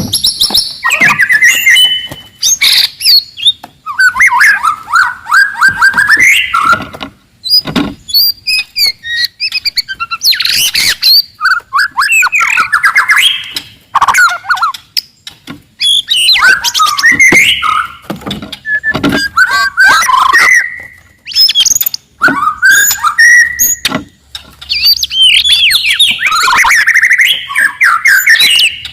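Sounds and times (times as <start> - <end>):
bird singing loudly: 0.0 - 6.8, 7.4 - 14.8, 15.8 - 18.0, 18.6 - 23.9, 24.7 - 28.9.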